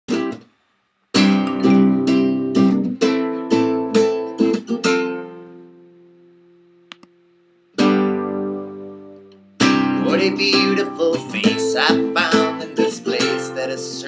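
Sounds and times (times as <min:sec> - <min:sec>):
acoustic guitar strumming: 0:00.1 - 0:00.5, 0:01.1 - 0:14.0.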